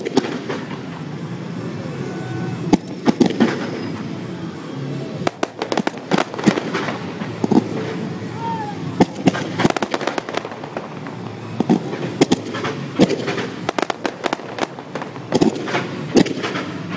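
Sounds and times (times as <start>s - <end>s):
fireworks bangs and pops: 0.0s - 1.8s, 2.5s - 16.9s
fireworks fountains hissing: 0.0s - 16.9s.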